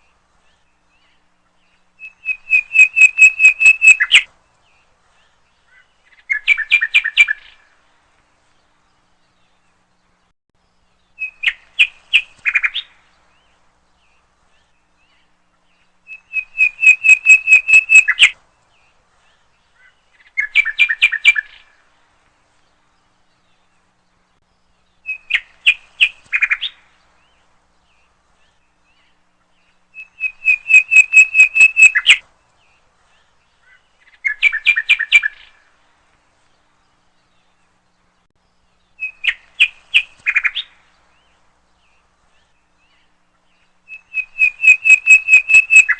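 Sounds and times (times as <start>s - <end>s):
songbird chirping: 0.0s - 45.9s.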